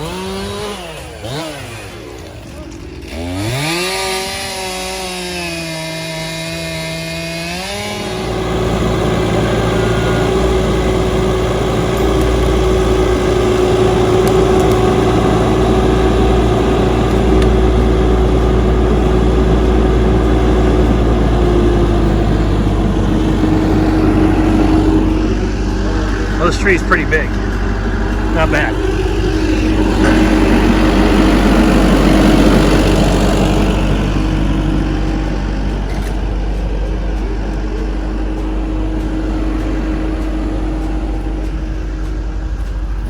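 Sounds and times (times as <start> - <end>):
chainsaw cutting wood: 0.0 - 36.7.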